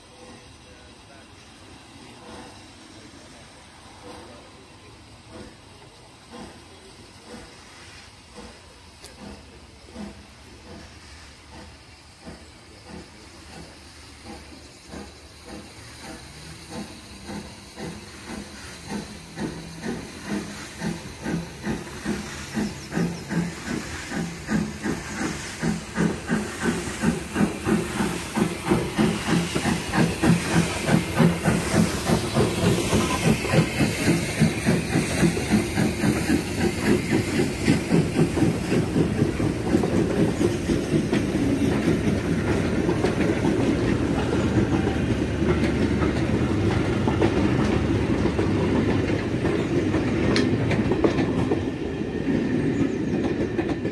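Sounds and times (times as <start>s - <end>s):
steam hiss: 0.0s - 53.9s
steam locomotive chuffing: 0.0s - 53.9s
train coaches rolling past: 0.0s - 53.9s.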